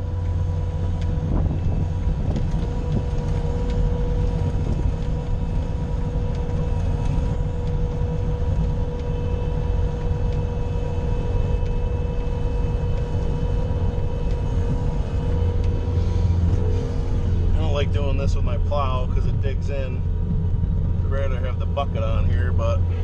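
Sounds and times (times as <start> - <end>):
diesel engine running under load: 0.0 - 23.0
steady whine: 0.0 - 23.0.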